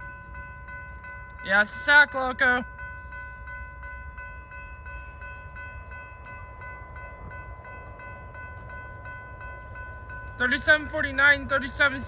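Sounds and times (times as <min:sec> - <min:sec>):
crossing bell ringing: 0:00.0 - 0:12.0.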